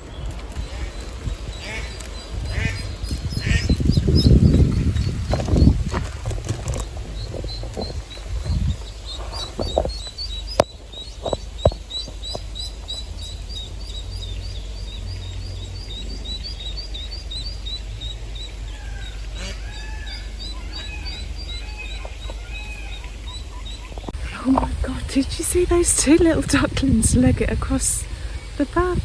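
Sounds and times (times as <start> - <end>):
bird calling lower: 0.0 - 29.0
small bird chirping: 0.0 - 29.0
steady low rumble: 0.0 - 29.0.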